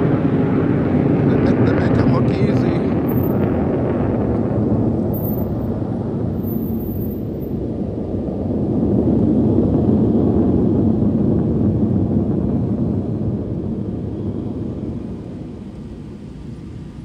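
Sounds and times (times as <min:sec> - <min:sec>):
military jets passing overhead: 0:00.0 - 0:17.0.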